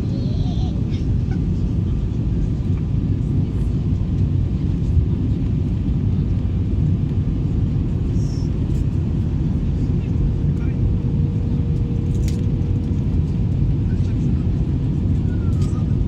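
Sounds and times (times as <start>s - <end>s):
airliner low rumble: 0.0s - 16.0s.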